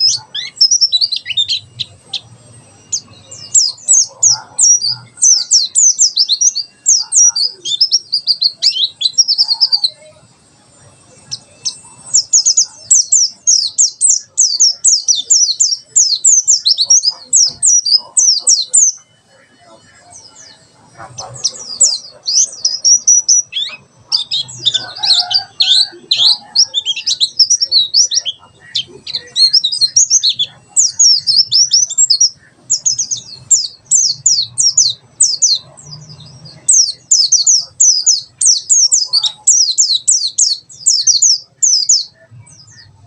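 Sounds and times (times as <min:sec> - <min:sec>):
bird singing rapid high notes: 0:00.0 - 0:43.0.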